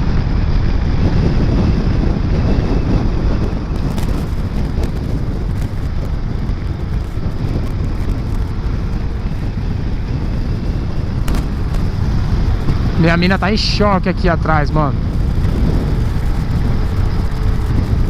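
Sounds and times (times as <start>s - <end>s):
scooter engine: 0.0s - 14.1s, 14.9s - 18.0s
road noise: 0.0s - 18.0s
wind buffeting microphone: 0.0s - 18.0s.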